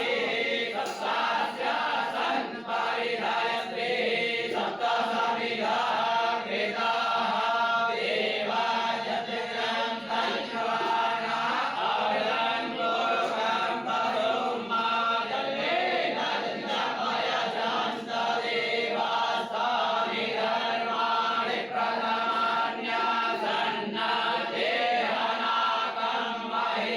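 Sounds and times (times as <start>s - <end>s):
voices chanting in unison: 0.0s - 26.9s.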